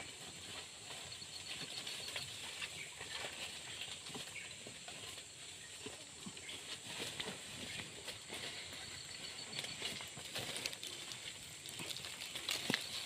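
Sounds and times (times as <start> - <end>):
small clicks and rustles: 0.2 - 13.0.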